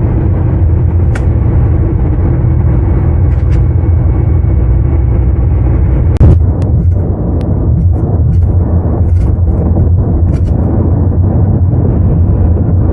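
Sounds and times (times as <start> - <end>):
car road and engine rumble: 0.0 - 12.9.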